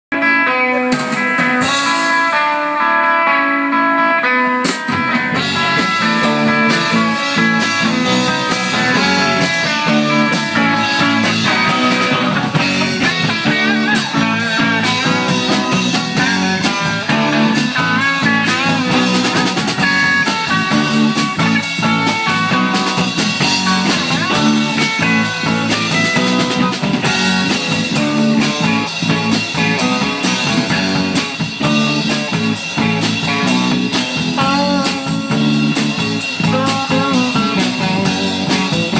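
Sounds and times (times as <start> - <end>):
rock band playing: 0.1 - 38.9.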